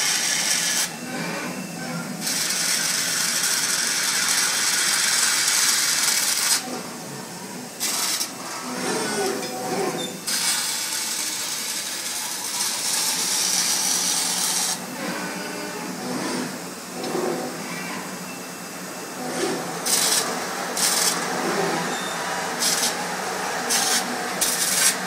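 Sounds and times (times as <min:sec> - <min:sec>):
robot arm machine noise: 0:00.0 - 0:18.1, 0:19.1 - 0:25.0.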